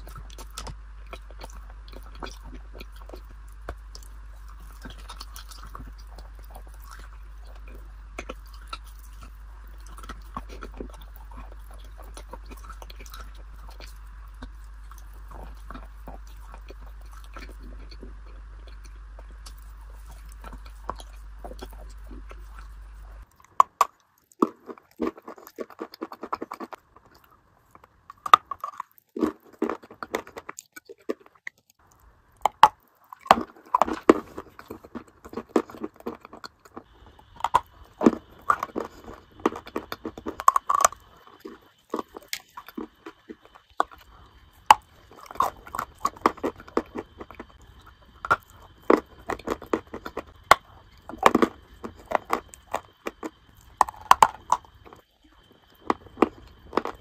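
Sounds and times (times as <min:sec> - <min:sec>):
crunchy chewing of dry food: 0:00.0 - 0:57.0.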